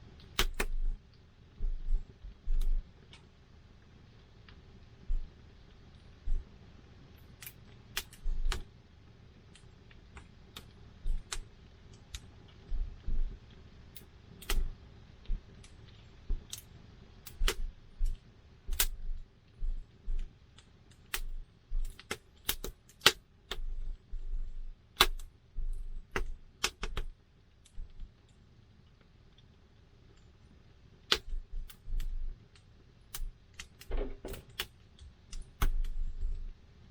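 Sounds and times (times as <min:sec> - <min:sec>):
faint low rumble: 0:00.0 - 0:36.9.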